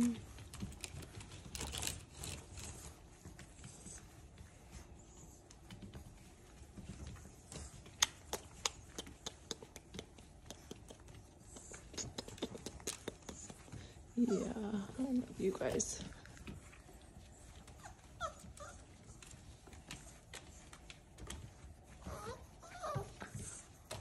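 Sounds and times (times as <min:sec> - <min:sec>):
puppies scuffling on a mat: 0:00.0 - 0:24.0.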